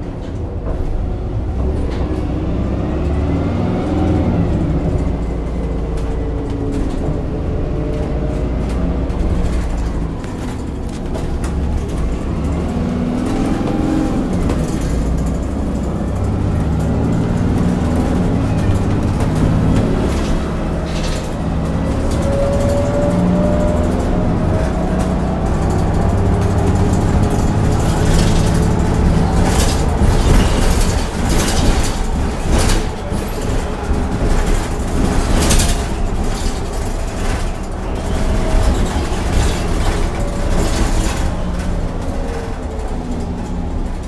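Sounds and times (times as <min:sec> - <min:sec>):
bus engine drone: 0:00.0 - 0:44.0
knocks and rattles: 0:03.9 - 0:44.0.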